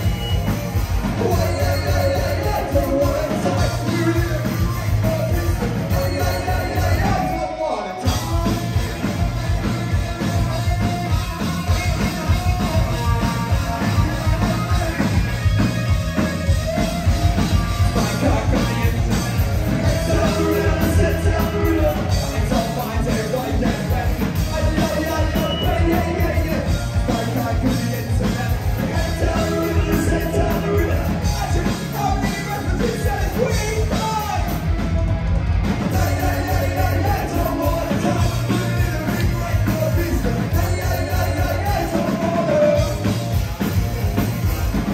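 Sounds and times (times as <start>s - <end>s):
drums: 0.0s - 44.9s
electric guitar: 0.0s - 44.9s
person singing: 1.0s - 15.4s, 17.7s - 34.6s, 35.8s - 43.3s.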